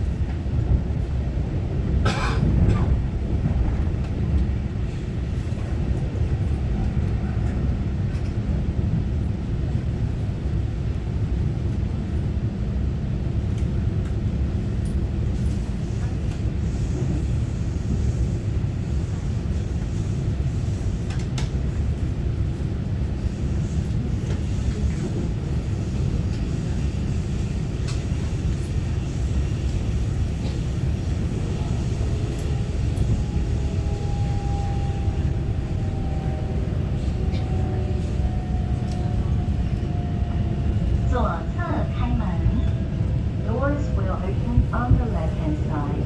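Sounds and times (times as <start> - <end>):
train rumbling from inside: 0.0 - 46.0.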